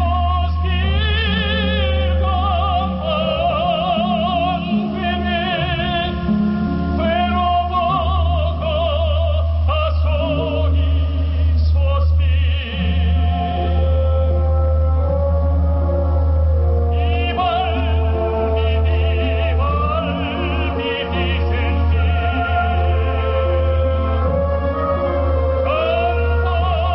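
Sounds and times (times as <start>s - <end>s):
instrumental accompaniment: 0.0s - 11.6s, 12.2s - 26.9s
man singing operatically: 0.0s - 15.1s, 16.8s - 26.9s.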